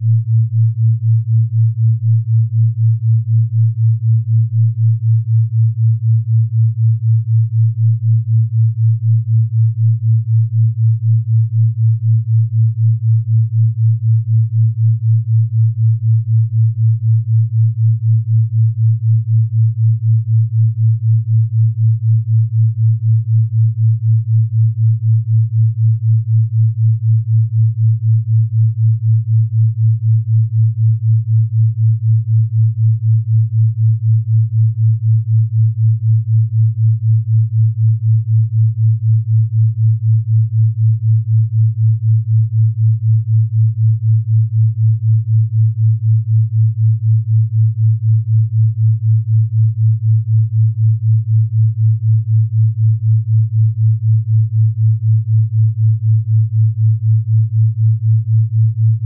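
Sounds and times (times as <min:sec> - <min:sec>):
low pulsing hum: 0:00.0 - 0:59.0.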